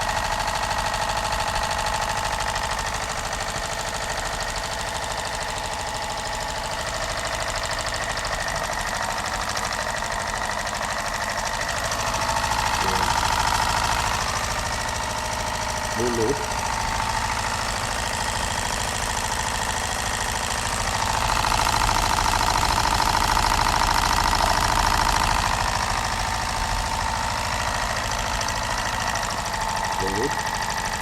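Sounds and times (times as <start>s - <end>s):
engine mechanical clatter: 0.0s - 31.0s.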